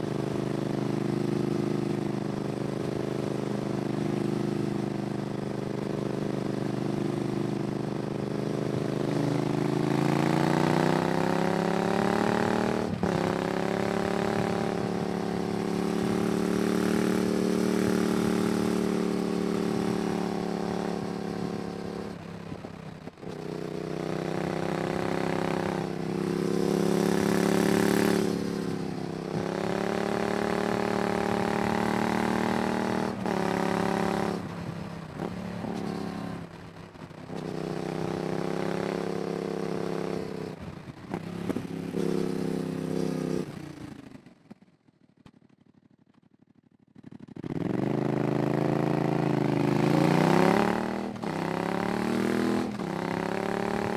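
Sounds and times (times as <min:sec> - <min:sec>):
motorcycle engine revving: 0:00.0 - 0:22.4, 0:23.0 - 0:44.6, 0:45.3 - 0:53.9.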